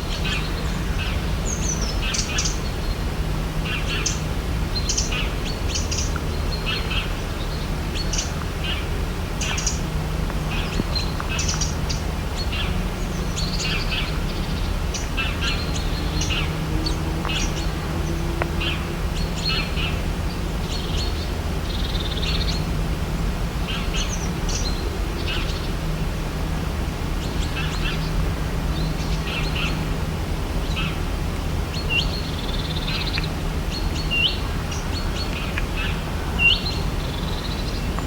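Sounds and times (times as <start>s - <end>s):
birds chirping: 0.0s - 23.0s, 23.6s - 38.0s.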